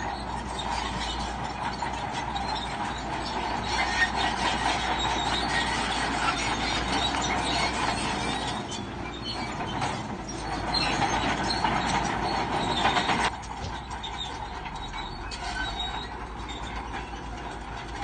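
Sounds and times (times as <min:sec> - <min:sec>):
bulldozer engine: 0:00.0 - 0:18.0
steel tracks squealing and clanking: 0:00.0 - 0:18.0.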